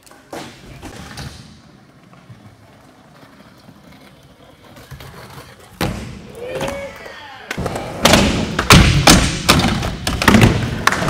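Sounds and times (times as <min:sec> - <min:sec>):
skateboard wheels rolling: 0:00.0 - 0:11.0.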